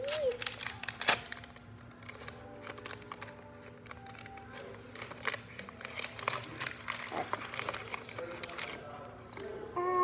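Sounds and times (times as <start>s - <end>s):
plastic wrapping crinkling and tearing: 0.0s - 9.7s.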